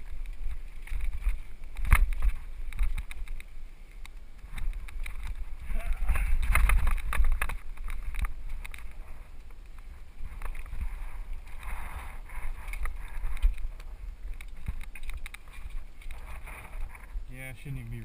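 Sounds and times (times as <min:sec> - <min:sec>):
mountain bike rattling over rocks: 0:00.0 - 0:18.0
wind rumbling on microphone: 0:00.0 - 0:18.0.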